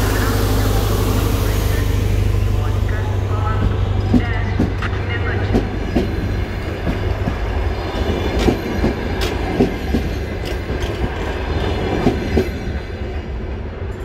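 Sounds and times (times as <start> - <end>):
train low rumble: 0.0 - 14.0.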